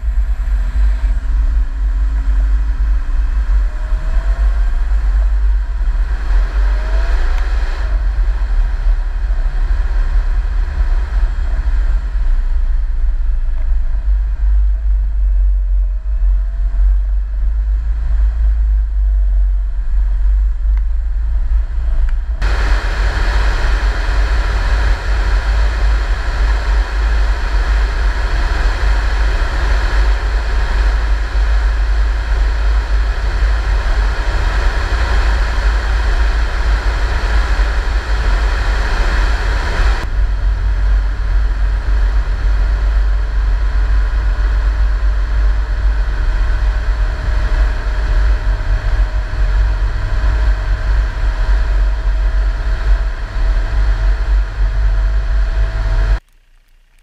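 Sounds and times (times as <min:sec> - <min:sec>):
faint rising whine: 0:00.0 - 0:57.0
vehicle driving rumble: 0:00.0 - 0:57.0.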